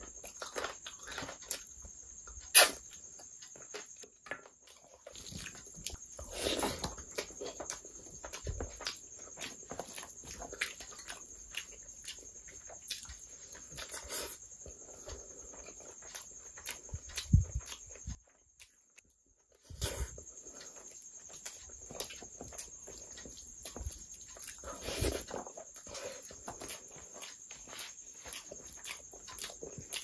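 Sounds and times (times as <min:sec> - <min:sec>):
person eating with wet chewing: 0:00.0 - 0:30.0.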